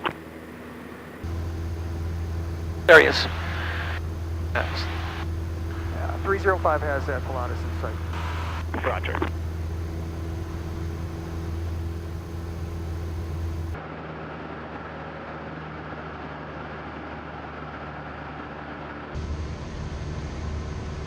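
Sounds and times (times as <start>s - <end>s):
propeller plane engine droning: 0.0s - 13.8s, 14.9s - 21.0s.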